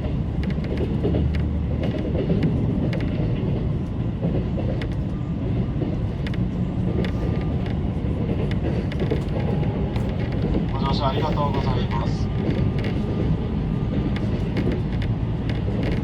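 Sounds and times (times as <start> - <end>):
wheels clicking over rail joints: 0.0 - 10.8, 12.3 - 16.0
train wheels rumbling on rail: 0.0 - 16.0.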